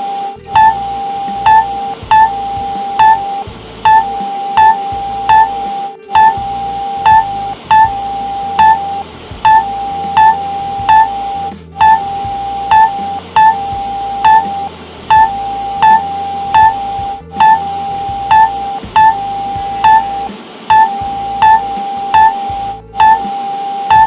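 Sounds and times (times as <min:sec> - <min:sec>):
high electronic alarm tone: 0:00.0 - 0:24.0
low musical line: 0:00.0 - 0:24.0
short loud beeps: 0:00.0 - 0:24.0.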